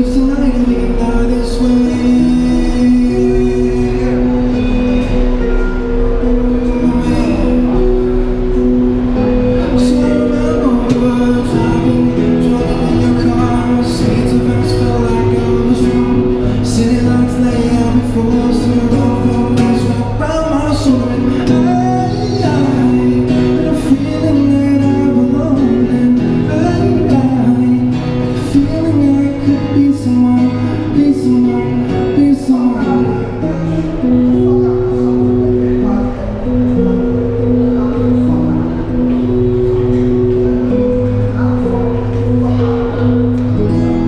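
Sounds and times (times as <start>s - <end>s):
man singing into microphone: 0.0s - 5.9s, 6.5s - 8.4s, 9.2s - 44.0s
amplified acoustic guitar: 0.0s - 44.0s.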